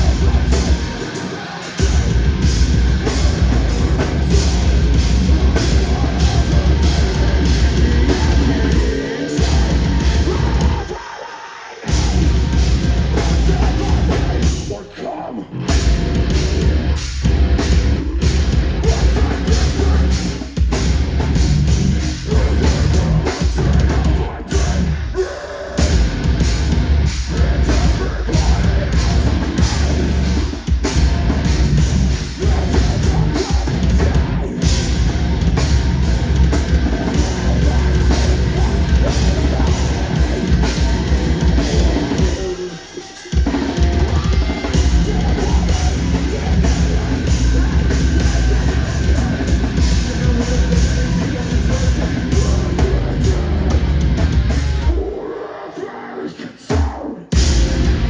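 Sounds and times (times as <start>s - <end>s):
loud heavy band playing live: 0.0s - 55.2s, 56.7s - 58.0s
pounding drum kit: 0.0s - 55.2s, 56.7s - 58.0s.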